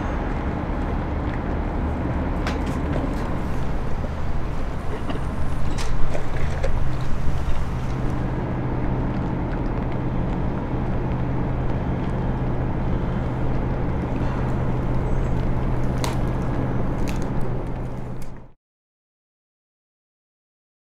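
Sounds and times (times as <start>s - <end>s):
diesel engines droning: 0.0s - 18.6s.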